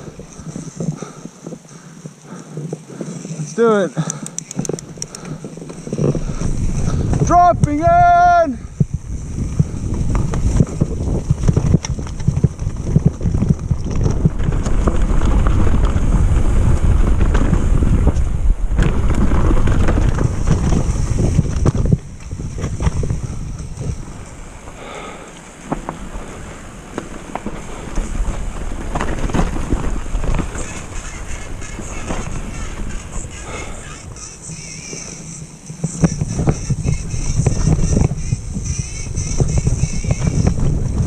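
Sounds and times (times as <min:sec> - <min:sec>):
wind rushing over microphone: 0:00.0 - 0:01.7, 0:02.9 - 0:41.0
tyre noise: 0:00.0 - 0:41.0
bike knocks and rattles: 0:04.4 - 0:33.7, 0:35.8 - 0:41.0.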